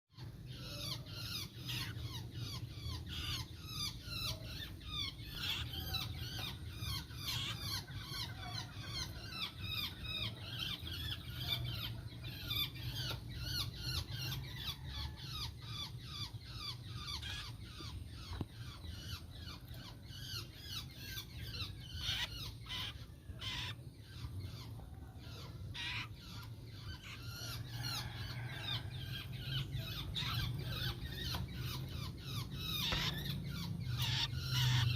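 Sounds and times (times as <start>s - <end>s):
birds chirping and chattering: 0.1s - 34.9s.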